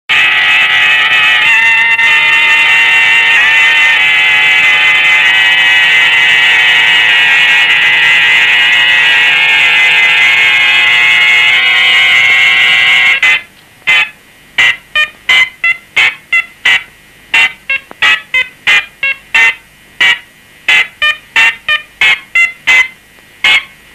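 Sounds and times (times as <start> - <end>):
loud buzzing horn-like sound: 0.1 - 23.8.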